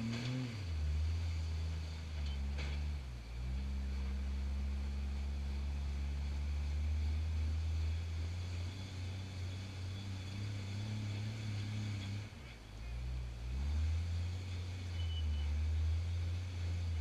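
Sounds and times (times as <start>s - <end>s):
buggy engine running at low revs: 0.0s - 17.0s.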